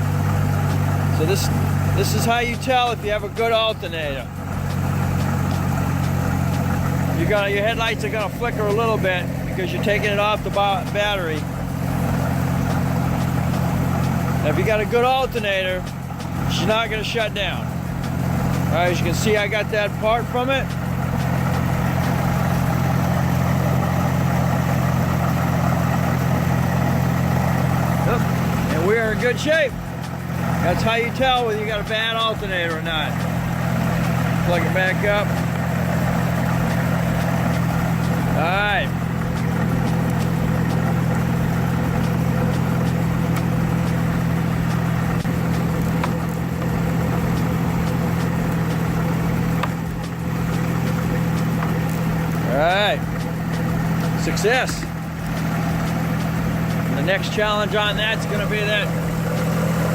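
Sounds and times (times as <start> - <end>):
car engine idling: 0.0 - 59.9
cooling fan noise: 0.0 - 59.9.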